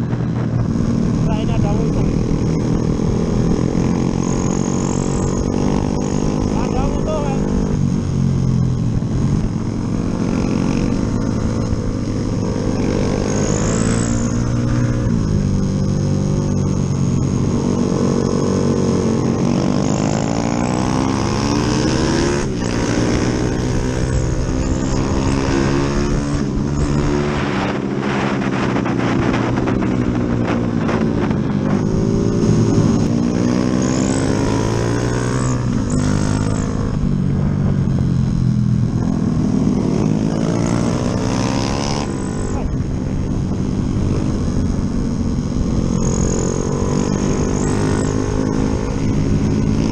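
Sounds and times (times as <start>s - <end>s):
motorcycle engine revving: 0.0s - 49.9s
wind noise: 0.0s - 49.9s.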